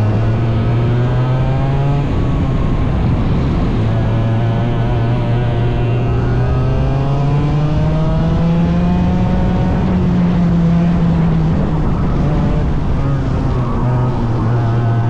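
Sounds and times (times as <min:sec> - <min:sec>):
small racing engine revving: 0:00.0 - 0:15.0.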